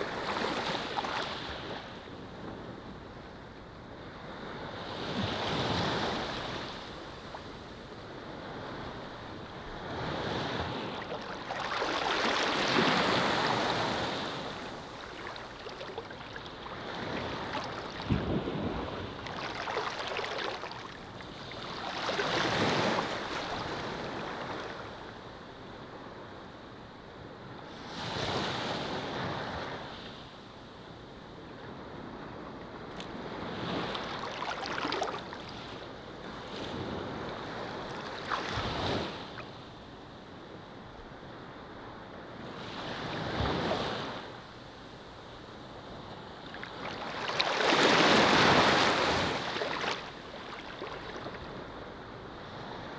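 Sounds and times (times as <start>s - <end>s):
ocean waves breaking on shore: 0.0s - 26.2s, 31.4s - 52.9s.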